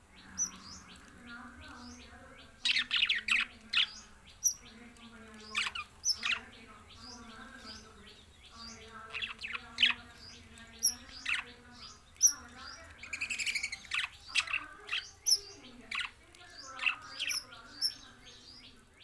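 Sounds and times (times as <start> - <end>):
budgerigars warbling: 0.0 - 18.9
budgerigars chirping: 0.0 - 19.0.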